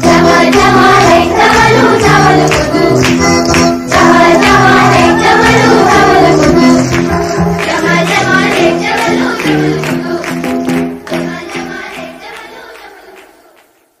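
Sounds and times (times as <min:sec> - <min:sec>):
choir singing over rhythmic melody: 0:00.0 - 0:13.8.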